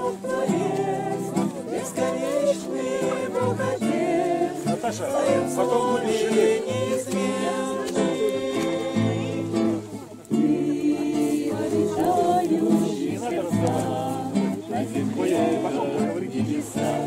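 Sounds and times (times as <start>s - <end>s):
acoustic guitar: 0.0s - 17.0s
group of voices singing: 0.0s - 17.0s.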